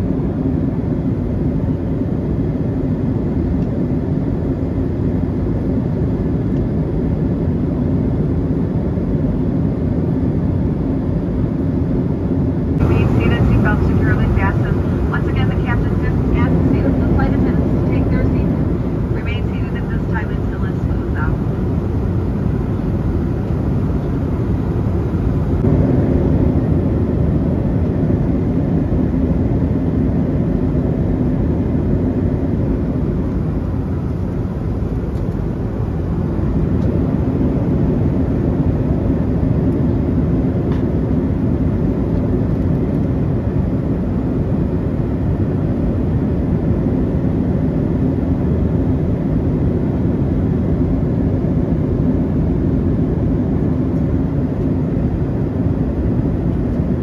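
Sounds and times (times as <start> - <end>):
airplane cabin engine rush: 0.0 - 57.0
faint steady hum: 10.8 - 57.0.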